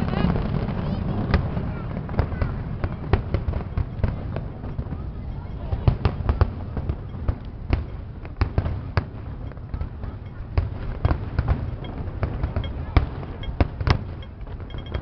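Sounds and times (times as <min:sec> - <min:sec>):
continuous low rumble: 0:00.0 - 0:15.0
fireworks bangs: 0:00.0 - 0:15.0.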